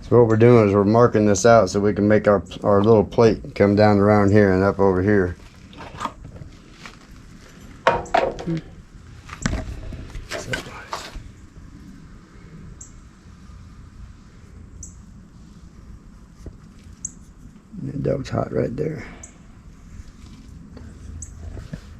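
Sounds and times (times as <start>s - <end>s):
low background noise: 0.0s - 21.9s.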